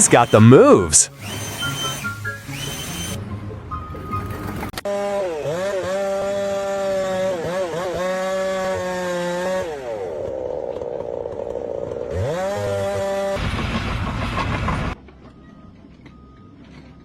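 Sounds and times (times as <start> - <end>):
small engine revving: 0.0 - 13.8.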